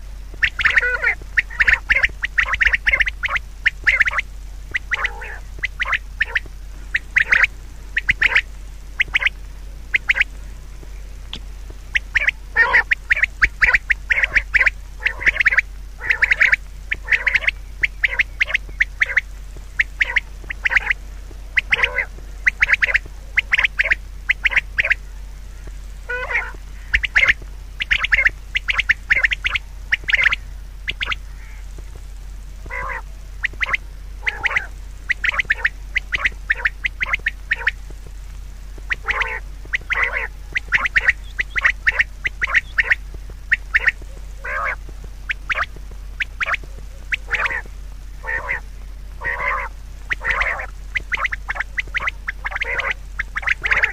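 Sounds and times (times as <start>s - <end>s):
birds calling in quick runs: 0.0s - 53.9s.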